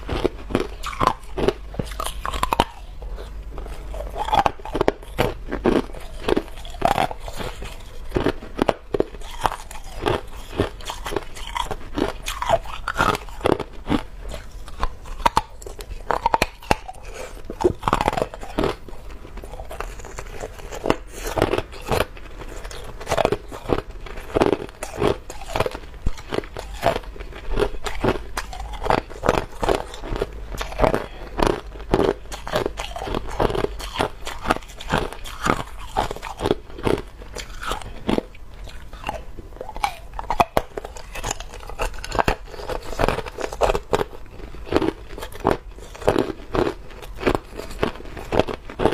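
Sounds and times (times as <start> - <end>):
ice crunching between teeth: 0.0 - 48.9.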